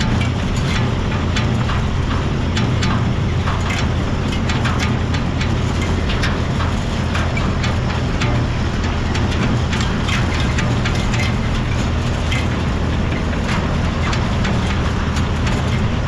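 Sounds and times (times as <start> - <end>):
clicks and rattles: 0.0 - 16.0
tractor engine running: 0.0 - 16.0.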